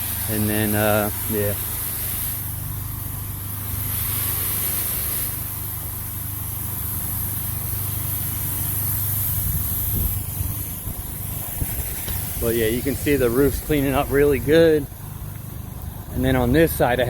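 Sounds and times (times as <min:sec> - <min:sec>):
motor humming: 0:00.0 - 0:17.0
water spraying from hose: 0:00.0 - 0:17.0.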